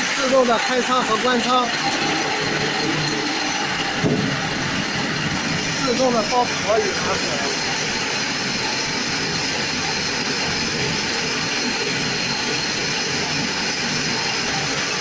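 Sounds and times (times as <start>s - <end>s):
baler wrapper machine running: 0.0s - 15.0s.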